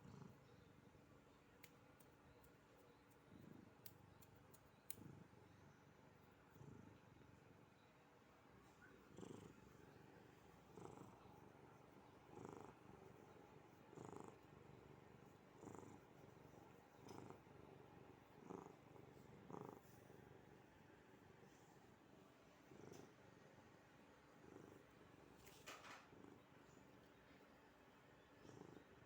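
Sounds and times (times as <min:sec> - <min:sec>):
cat purring: 0:00.0 - 0:01.7, 0:02.4 - 0:08.0, 0:08.6 - 0:29.0.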